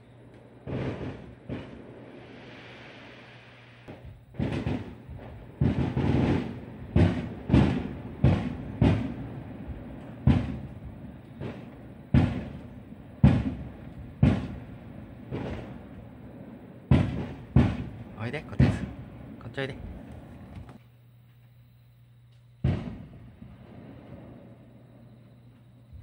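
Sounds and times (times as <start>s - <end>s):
firework shell bursts booming: 0.0s - 20.5s, 22.6s - 24.4s
fireworks fizzing and crackling: 0.0s - 20.9s, 22.5s - 26.0s.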